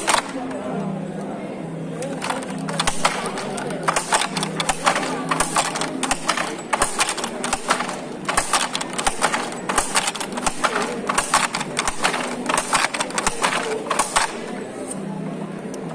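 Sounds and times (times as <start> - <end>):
handloom clattering: 0.0 - 0.4, 2.0 - 14.6.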